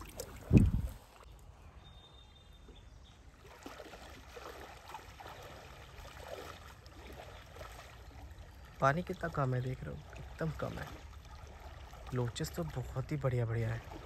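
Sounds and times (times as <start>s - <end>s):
river water trickling: 0.0s - 14.0s.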